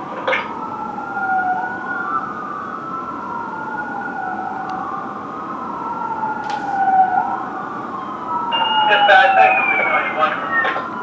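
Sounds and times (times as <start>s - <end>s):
fire engine siren wailing: 0.2s - 11.0s.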